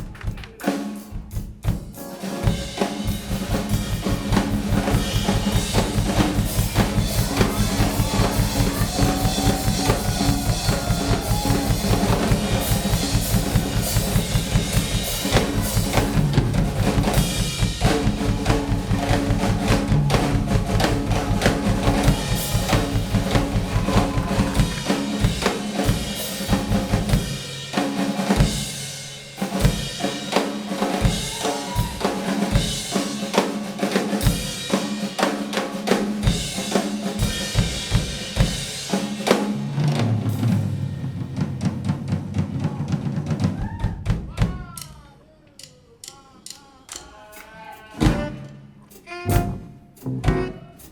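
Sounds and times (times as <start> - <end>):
live band playing: 0.0 - 43.4, 47.2 - 50.9
drum kit beat: 0.0 - 50.9.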